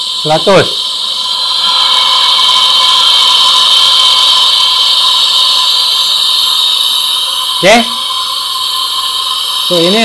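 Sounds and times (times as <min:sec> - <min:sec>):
compressed air hissing through nozzle: 0:00.0 - 0:10.0.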